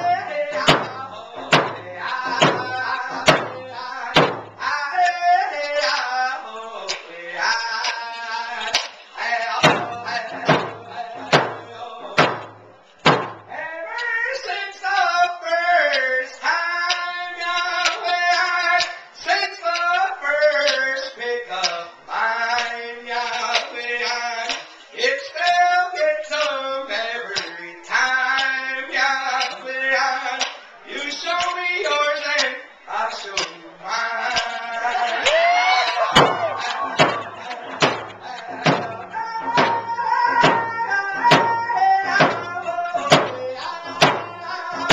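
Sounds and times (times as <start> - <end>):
man singing: 0.0 - 12.8, 13.4 - 44.9.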